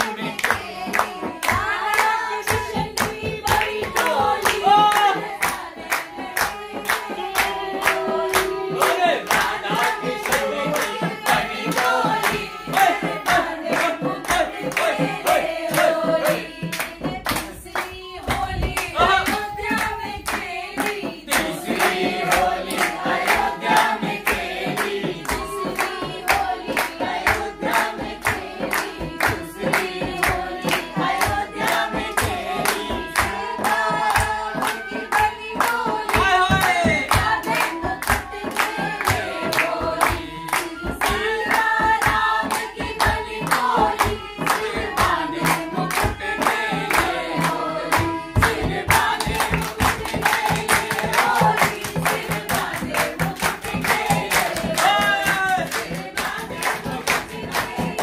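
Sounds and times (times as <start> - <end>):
group singing in unison: 0.0 - 58.0
rhythmic hand clapping: 0.0 - 58.0.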